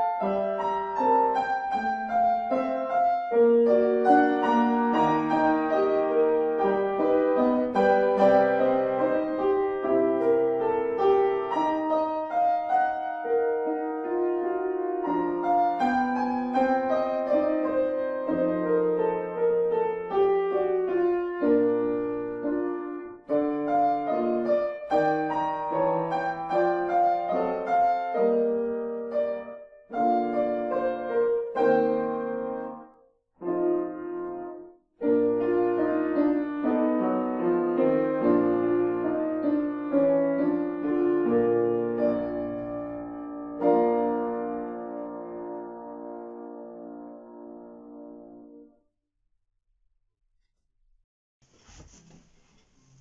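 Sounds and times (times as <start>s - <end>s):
solo grand piano piece: 0.0s - 48.9s.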